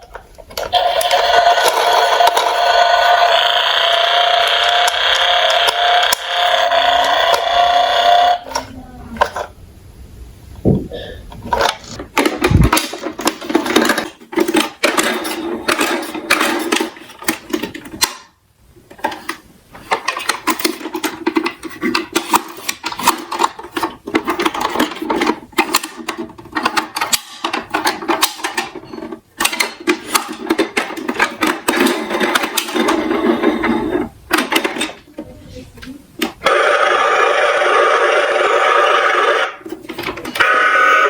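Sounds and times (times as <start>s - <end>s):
plastic toy trucks rattling: 0.0s - 9.5s, 11.5s - 18.3s, 18.9s - 35.1s, 39.6s - 40.5s.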